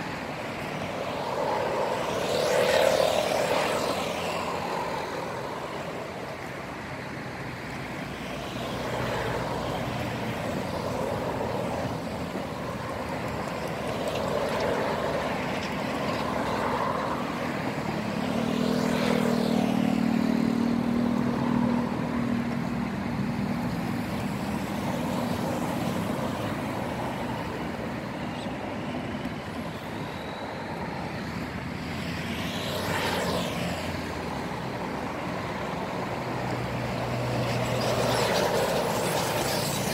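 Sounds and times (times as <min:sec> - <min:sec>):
traffic engine rumble: 0:00.0 - 0:39.9
vehicles passing: 0:00.0 - 0:39.9.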